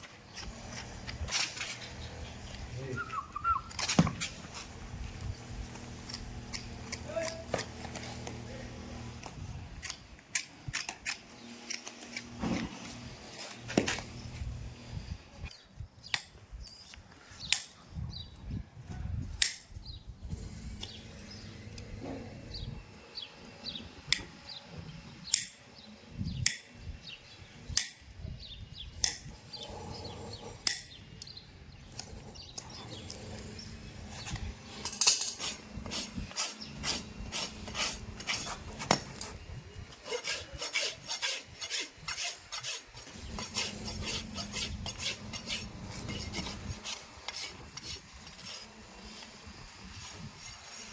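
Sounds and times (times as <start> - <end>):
hoof scraping and filing: 0.0 - 50.9.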